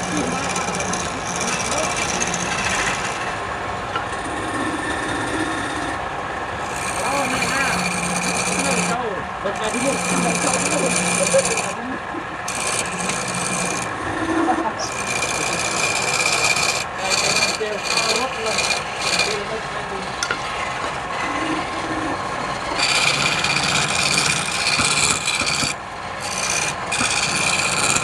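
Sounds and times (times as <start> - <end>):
lathe motor hum: 0.0 - 28.0
lathe tool cutting wood: 0.0 - 28.0.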